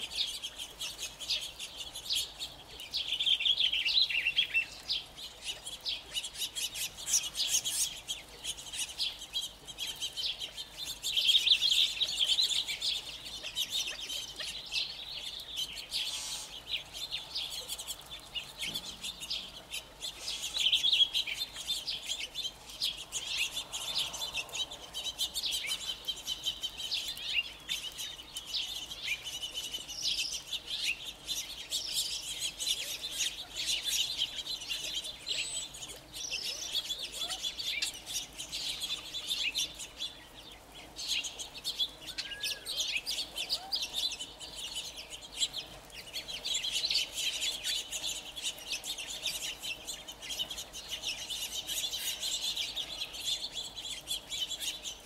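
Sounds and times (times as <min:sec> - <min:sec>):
quail chirping and calling: 0:00.0 - 0:55.0
small songbirds: 0:00.0 - 0:55.0.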